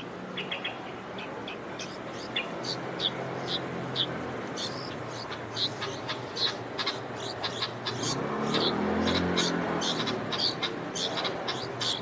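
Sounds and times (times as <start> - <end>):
low hum of road traffic: 0.0 - 12.0
nestlings begging with high chirps: 0.0 - 12.0
vehicle passing: 0.0 - 12.0.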